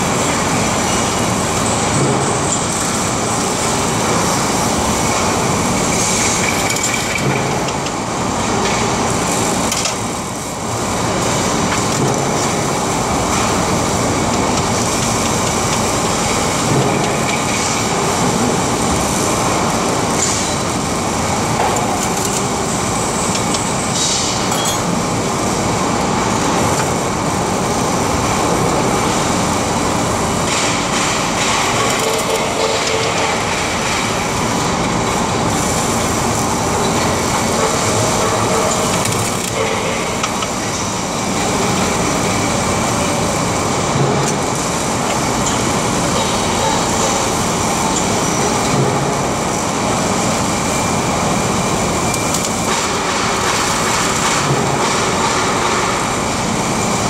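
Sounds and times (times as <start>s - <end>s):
factory machinery rumble and clatter: 0.0s - 57.0s.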